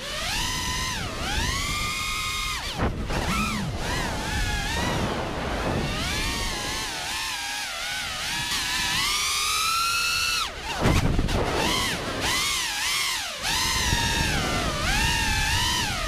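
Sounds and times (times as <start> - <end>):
drone motors whining: 0.0 - 16.0
wind noise: 0.0 - 16.0.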